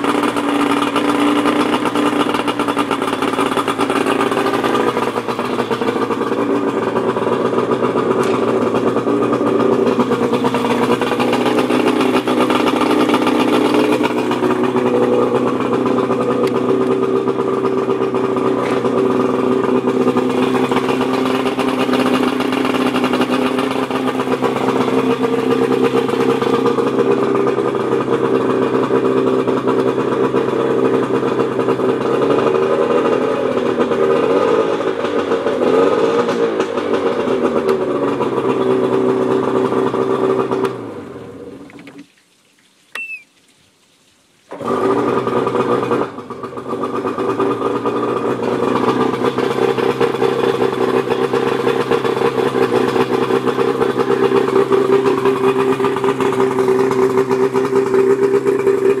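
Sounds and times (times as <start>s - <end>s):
outboard motor running: 0.0s - 42.1s, 44.5s - 59.0s.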